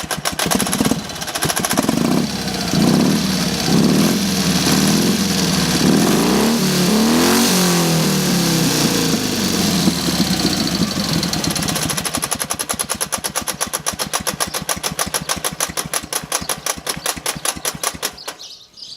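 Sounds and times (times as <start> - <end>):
engine knocking: 0.0 - 18.2
motorcycle engine revving: 0.0 - 18.2.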